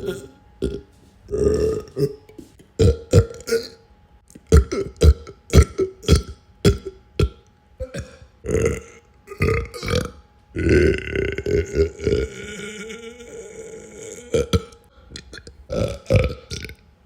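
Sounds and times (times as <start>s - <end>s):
person belching: 0.0s - 3.8s, 4.4s - 16.8s.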